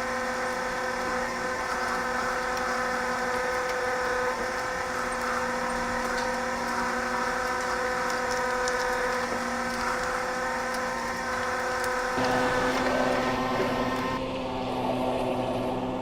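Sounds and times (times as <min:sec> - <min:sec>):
forklift humming: 0:00.0 - 0:15.8.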